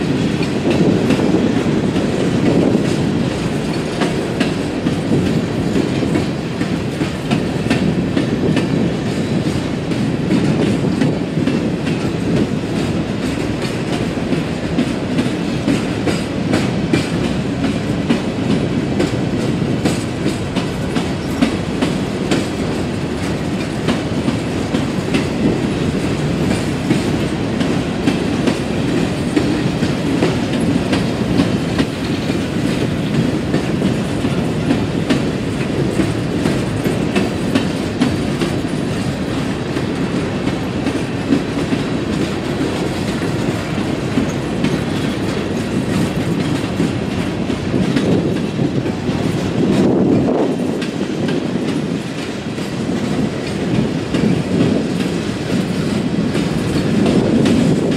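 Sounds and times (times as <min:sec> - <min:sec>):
clickety-clack over rail joints: 0:00.0 - 0:57.9
steel wheels rumbling on rail: 0:00.0 - 0:57.9.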